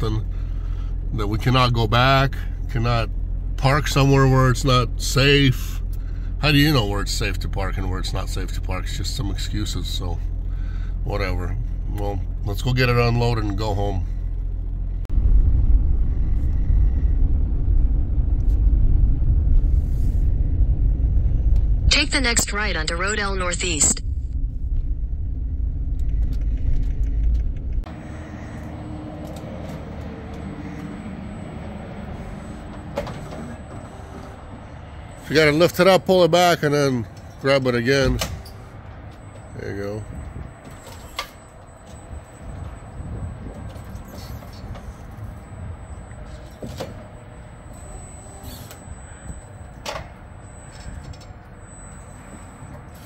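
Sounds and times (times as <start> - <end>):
road rumble inside moving van: 0.0 - 53.0.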